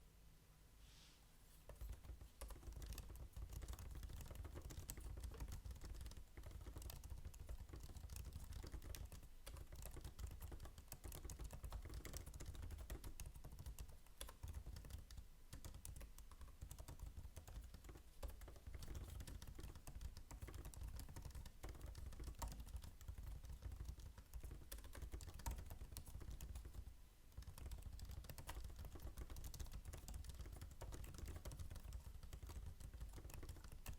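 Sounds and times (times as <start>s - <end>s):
fast typing on laptop keyboard: 1.7s - 33.9s.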